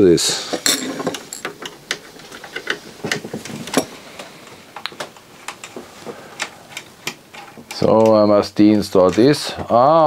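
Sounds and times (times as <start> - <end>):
hand tools clicking and tapping: 0.5 - 10.0.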